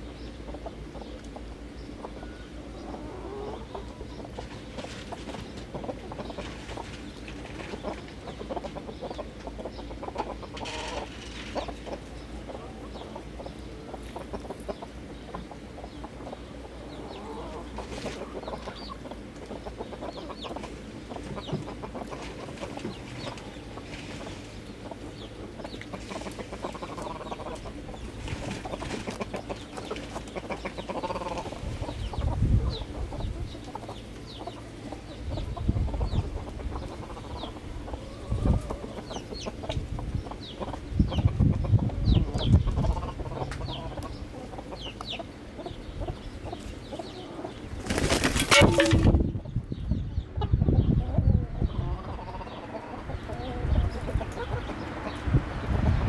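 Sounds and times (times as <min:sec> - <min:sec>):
chickens clucking softly: 0:00.0 - 0:56.0.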